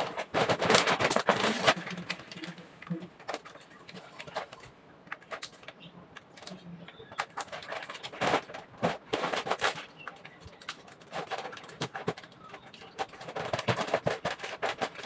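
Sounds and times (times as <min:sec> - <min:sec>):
plastic bag crinkling and rustling: 0:00.0 - 0:15.0.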